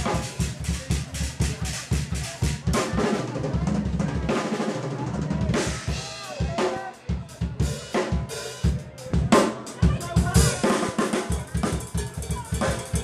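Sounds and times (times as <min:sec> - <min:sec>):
drum kit solo: 0:00.0 - 0:13.0.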